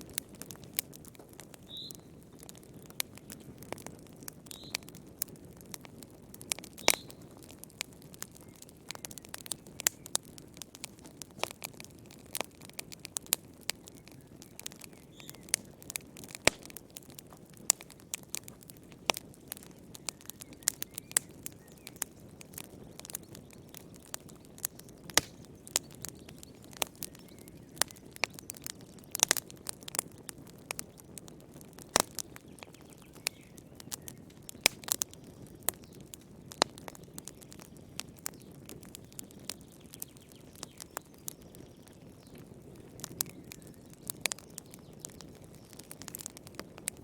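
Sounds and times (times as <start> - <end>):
wood fire pops and snaps: 0.0 - 47.0.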